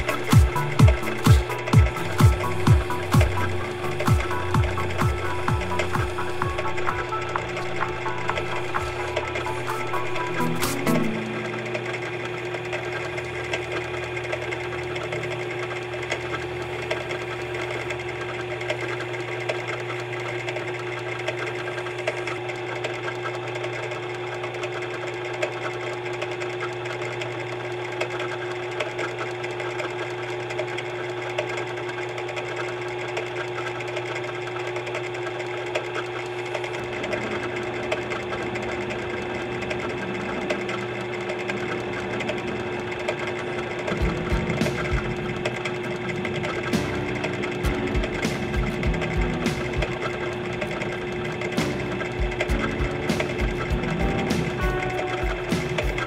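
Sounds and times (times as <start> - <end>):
electric drill motor humming: 0.0 - 56.0.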